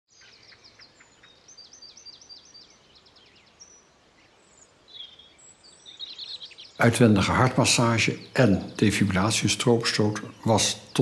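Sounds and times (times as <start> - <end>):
faint birdsong chirping: 0.1 - 11.0.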